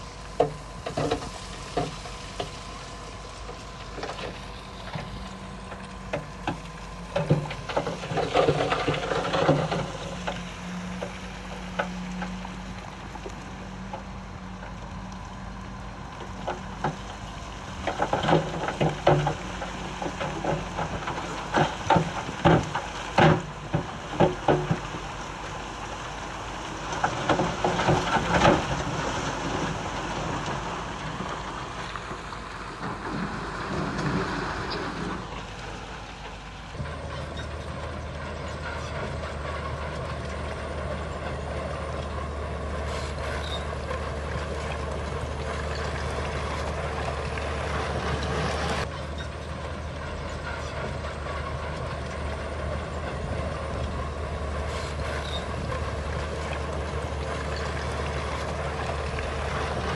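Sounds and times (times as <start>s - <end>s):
diesel machinery engines working: 0.0s - 59.9s.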